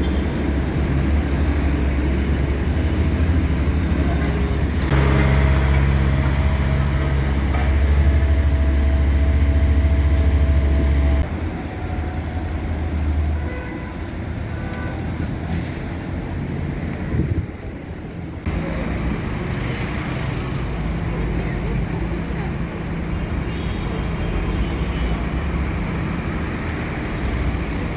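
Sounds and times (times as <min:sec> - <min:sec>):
heavy vehicle engine running: 0:00.0 - 0:13.4, 0:15.3 - 0:27.9
street traffic noise: 0:00.0 - 0:27.9.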